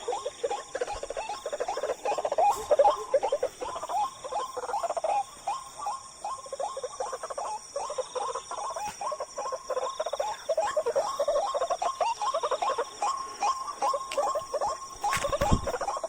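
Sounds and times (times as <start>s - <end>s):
high buzz of insects: 0.0s - 16.0s
waterhens croaking calls: 0.0s - 16.0s.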